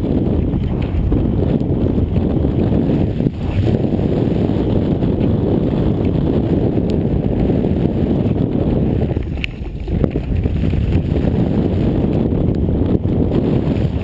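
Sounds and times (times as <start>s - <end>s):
mountain bike rumble and rattle: 0.0s - 14.0s
wind buffeting microphone: 0.0s - 14.0s.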